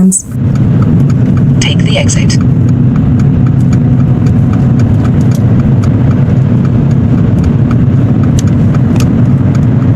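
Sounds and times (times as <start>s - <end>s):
car engine and road rumble: 0.0s - 9.9s
turn signal ticking: 0.0s - 9.9s.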